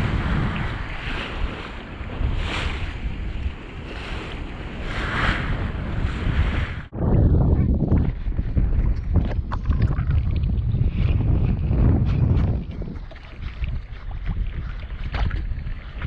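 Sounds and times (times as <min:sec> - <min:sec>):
water rushing along boat hull: 0:00.0 - 0:06.8, 0:08.0 - 0:16.0
low rumble: 0:00.0 - 0:16.0
wind buffeting microphone: 0:00.0 - 0:16.0.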